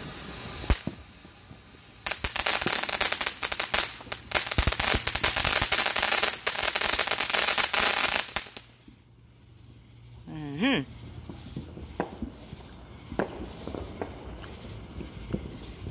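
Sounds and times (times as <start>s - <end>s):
firework sparks hissing: 0.0s - 9.0s, 9.6s - 15.9s.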